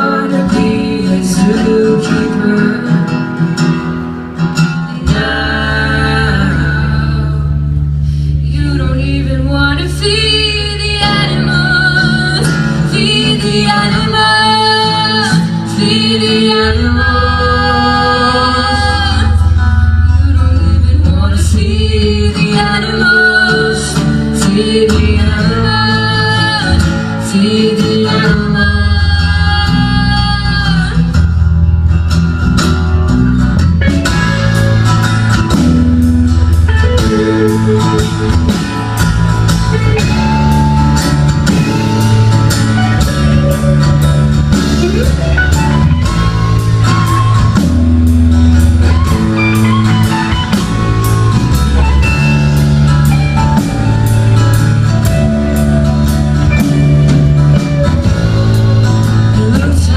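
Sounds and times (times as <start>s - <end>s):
bass guitar: 0.0s - 59.9s
guitar lead with bent notes: 0.0s - 59.9s
drum kit: 9.9s - 59.9s.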